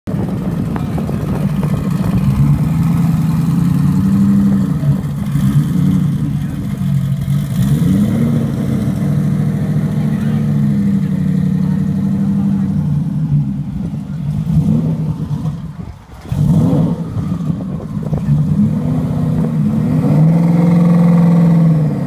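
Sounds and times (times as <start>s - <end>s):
car engine fast idle with throttle blips: 0.1s - 18.7s.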